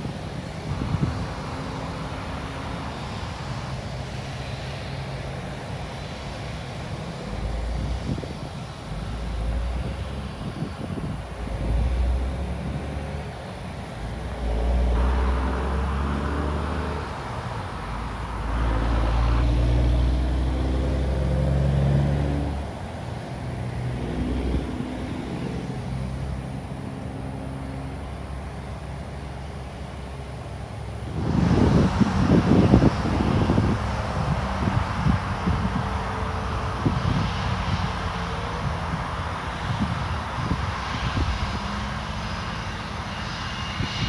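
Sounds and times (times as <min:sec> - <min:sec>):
wind buffeting microphone: 0:00.0 - 0:26.9, 0:30.8 - 0:44.0
distant jet engine rumble: 0:00.0 - 0:44.0.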